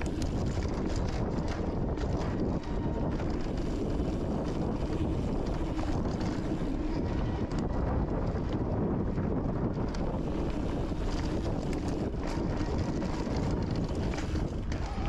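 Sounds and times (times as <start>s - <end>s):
bike rattling over bumps: 0.0s - 15.0s
tyres rumbling over rocky ground: 0.0s - 15.0s
wind rushing over microphone: 0.0s - 15.0s.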